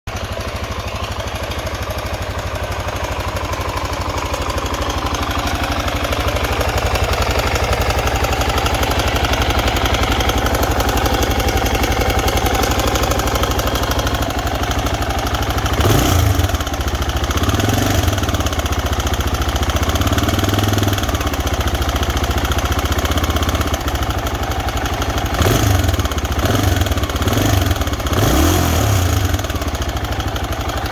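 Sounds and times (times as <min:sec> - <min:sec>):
motorcycle engine idling and revving: 0:00.1 - 0:30.9.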